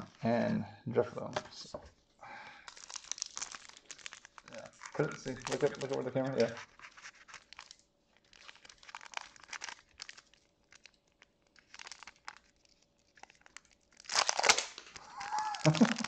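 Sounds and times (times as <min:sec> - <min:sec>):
wrapper crinkling: 0:02.5 - 0:16.0.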